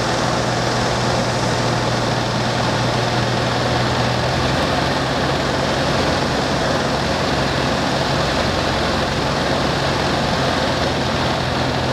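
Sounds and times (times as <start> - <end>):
airflow noise: 0.0 - 11.9
light aircraft engine running: 0.0 - 11.9.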